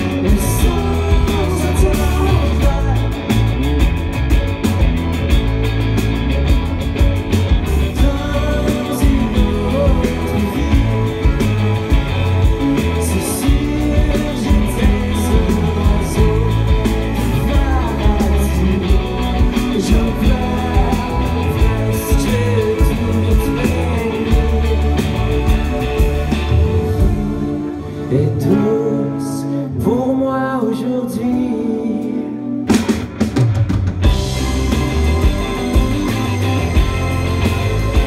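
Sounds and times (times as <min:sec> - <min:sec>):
drum kit: 0:00.0 - 0:28.7, 0:32.5 - 0:38.0
bass guitar: 0:00.0 - 0:38.0
electric guitars: 0:00.0 - 0:38.0.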